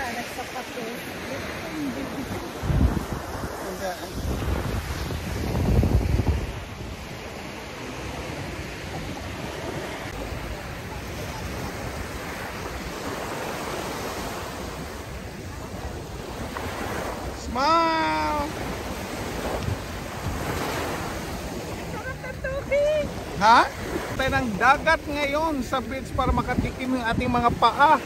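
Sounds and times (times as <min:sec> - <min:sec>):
ocean surf washing on beach: 0:00.0 - 0:28.0
wind buffeting microphone: 0:00.0 - 0:28.0.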